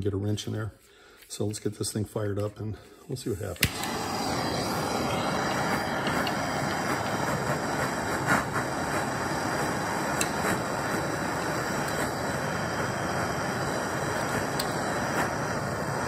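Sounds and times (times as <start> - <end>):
propane torch hissing: 3.1 - 16.0.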